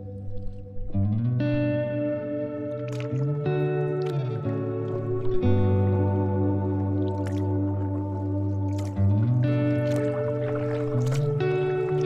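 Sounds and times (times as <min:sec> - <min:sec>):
faint water splashes: 0:00.0 - 0:12.0
mellow background music: 0:00.0 - 0:12.0.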